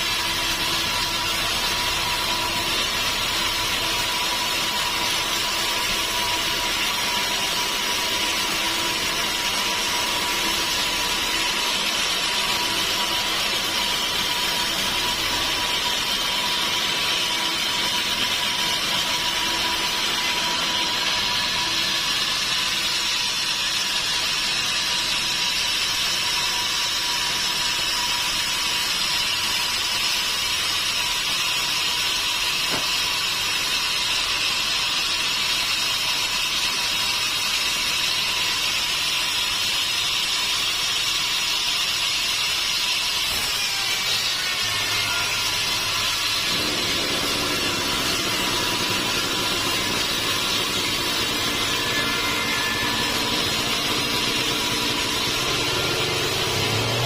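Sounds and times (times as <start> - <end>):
sawmill machinery whine: 0.0 - 57.0.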